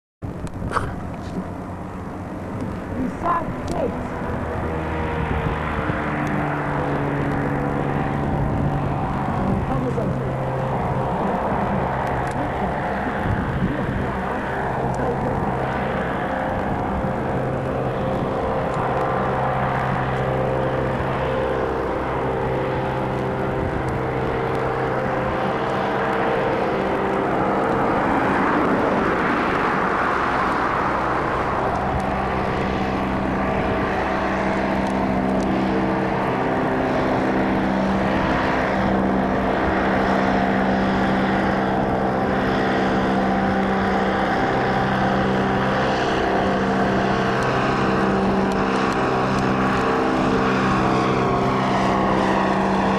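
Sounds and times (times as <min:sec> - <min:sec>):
airship propeller engines droning: 0:00.2 - 0:52.9.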